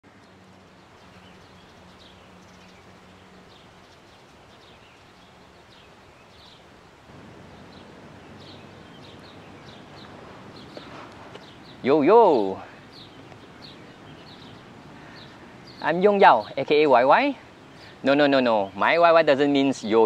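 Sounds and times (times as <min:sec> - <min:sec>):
background hiss: 0:00.0 - 0:20.0
small birds chirping: 0:00.0 - 0:20.0.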